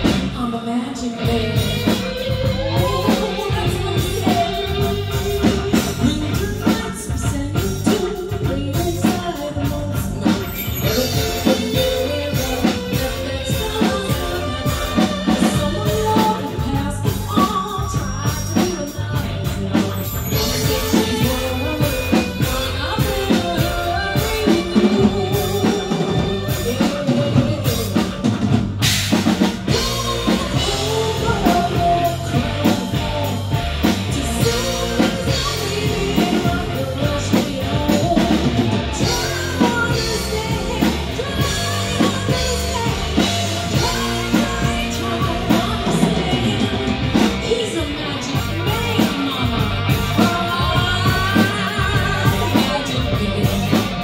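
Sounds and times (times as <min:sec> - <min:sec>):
bass guitar: 0:00.0 - 0:54.0
drum kit: 0:00.0 - 0:54.0
electric guitar: 0:00.0 - 0:54.0
woman singing lead vocal: 0:00.0 - 0:54.0.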